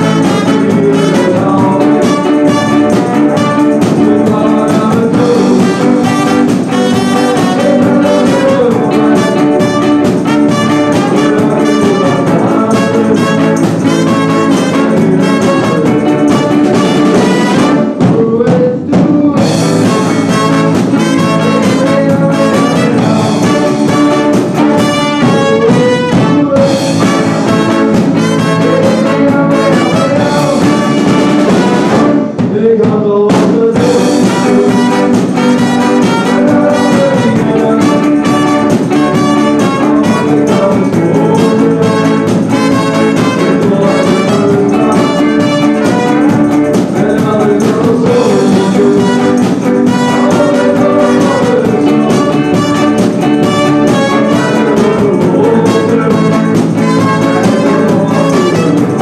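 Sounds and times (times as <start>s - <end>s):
trombone: 0.0s - 32.5s, 33.2s - 59.0s
trumpet: 0.0s - 32.6s, 33.3s - 59.0s
live band playing: 0.0s - 59.0s.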